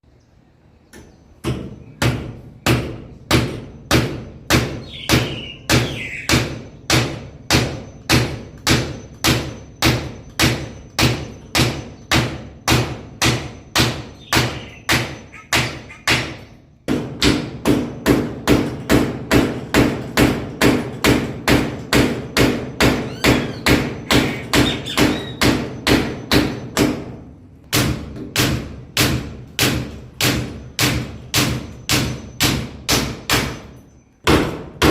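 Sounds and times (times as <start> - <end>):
hammer striking nails: 1.4 - 34.9.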